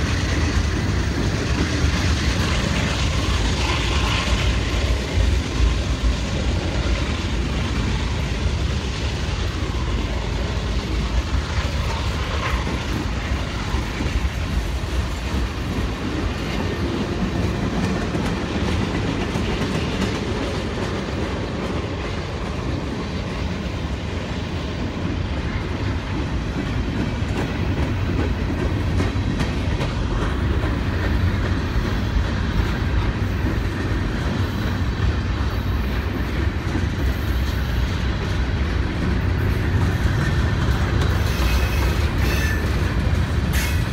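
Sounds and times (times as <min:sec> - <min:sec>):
freight train wheels clacking: 0:00.0 - 0:43.9
train rumble: 0:00.0 - 0:43.9.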